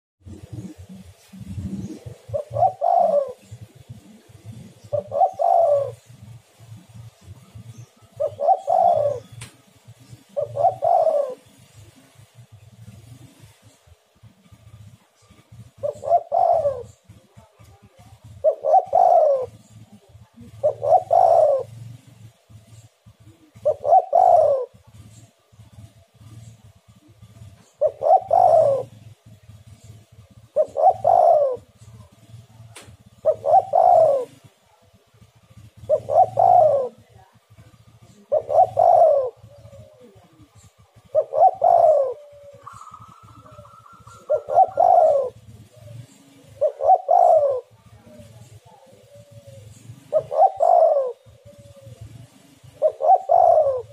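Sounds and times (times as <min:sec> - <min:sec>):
dove cooing: 0:00.2 - 0:53.9.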